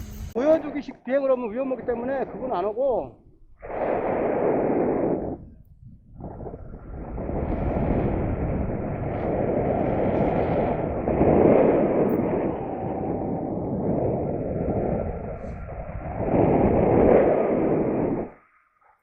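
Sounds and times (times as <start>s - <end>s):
wind buffeting microphone: 0.8s - 18.6s.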